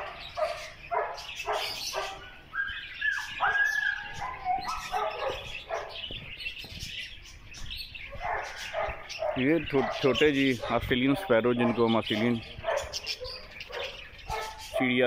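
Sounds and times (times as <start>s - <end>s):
parrots squawking and chirping: 0.0s - 15.0s.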